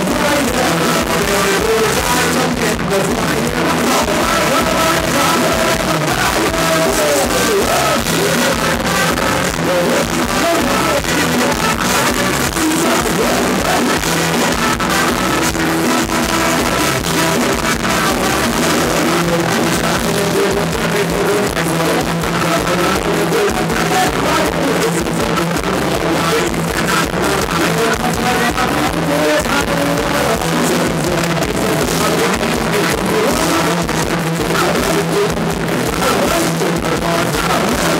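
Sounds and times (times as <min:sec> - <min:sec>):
drum kit beat: 0:00.0 - 0:37.9
live band playing dance music: 0:00.0 - 0:37.9.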